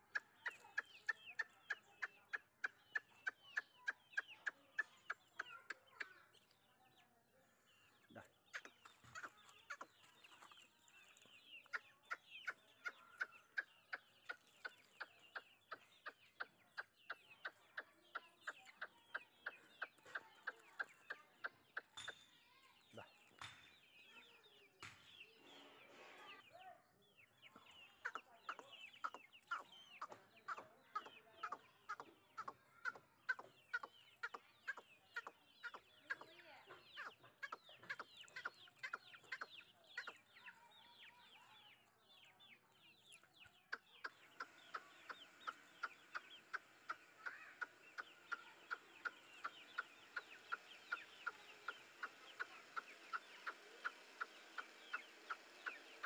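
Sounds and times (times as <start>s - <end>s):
chicks peeping: 0.0s - 7.0s, 7.8s - 56.0s.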